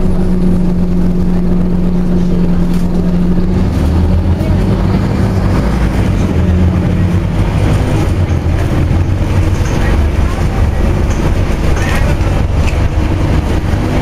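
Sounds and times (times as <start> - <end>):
bus engine rumble: 0.0 - 14.0
steady drone: 0.0 - 14.0.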